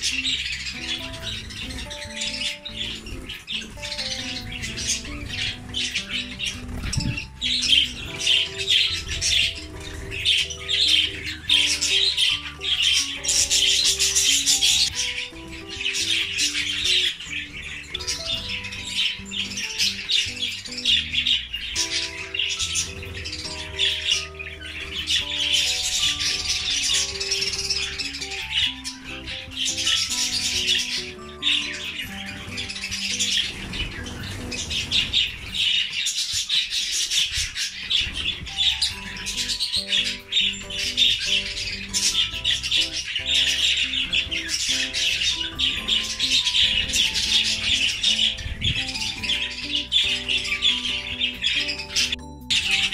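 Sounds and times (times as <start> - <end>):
budgerigars chirping: 0.0 - 52.9
instrumental background music: 0.0 - 52.9.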